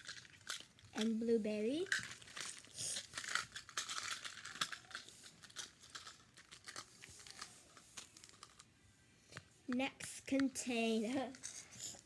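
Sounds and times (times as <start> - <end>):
plastic pieces clicking and rustling: 0.0 - 8.7, 10.0 - 12.0.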